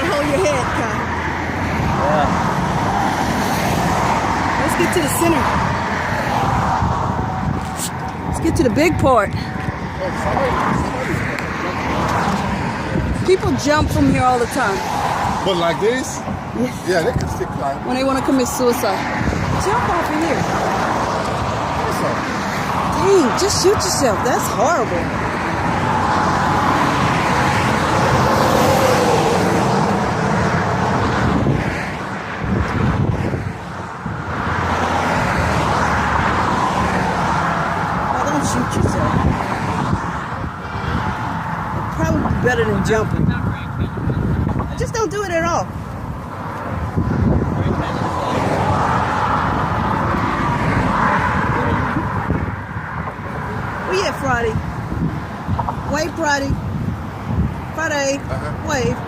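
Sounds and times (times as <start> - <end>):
road traffic passing: 0.0 - 59.0
wind rumble on microphone: 0.0 - 59.0.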